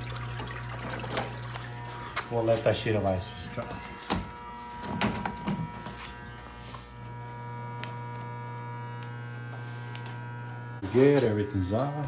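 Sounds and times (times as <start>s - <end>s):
ice machine electrical hum: 0.0s - 12.0s.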